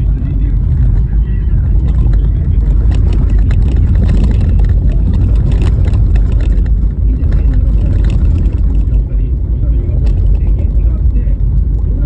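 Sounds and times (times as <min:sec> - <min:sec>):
knocks and rattles: 0:00.0 - 0:12.0
tyre and road rumble: 0:00.0 - 0:12.0.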